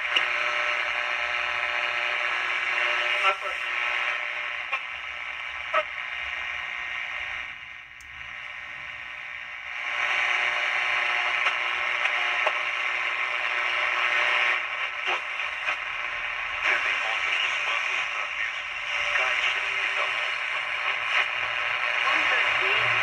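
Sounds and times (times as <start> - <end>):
radio static hissing: 0.0 - 23.0.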